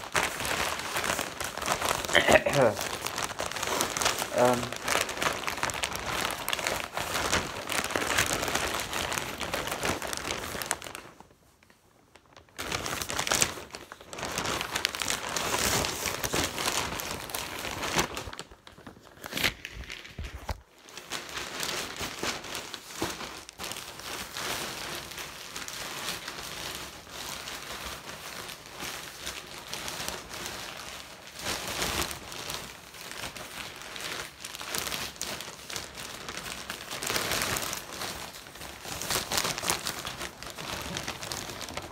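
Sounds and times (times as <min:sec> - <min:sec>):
packaging crinkling and rustling: 0:00.0 - 0:41.9.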